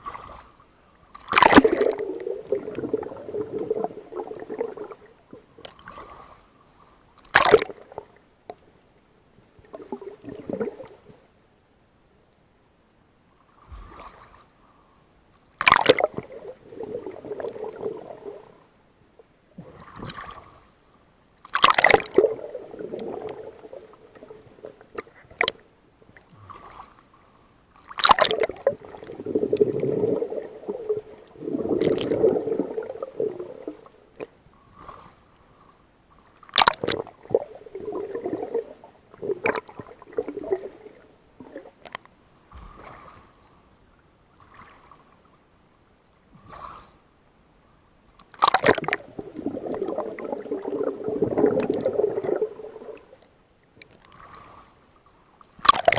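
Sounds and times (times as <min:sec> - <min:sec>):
water splashing and sloshing: 0:00.0 - 0:08.7, 0:09.5 - 0:11.4, 0:13.4 - 0:14.6, 0:15.4 - 0:45.6, 0:48.2 - 0:55.9.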